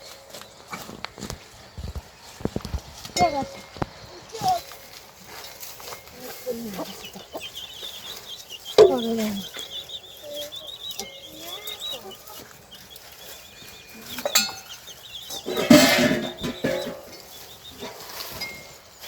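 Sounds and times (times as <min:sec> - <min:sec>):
farmyard animals calling: 0:00.0 - 0:19.0.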